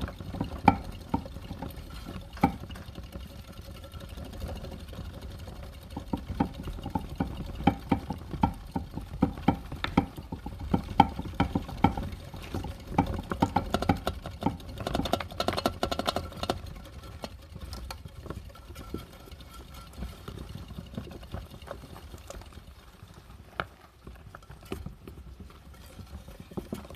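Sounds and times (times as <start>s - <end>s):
hamster wheels clicking and knocking: 0.0s - 26.9s.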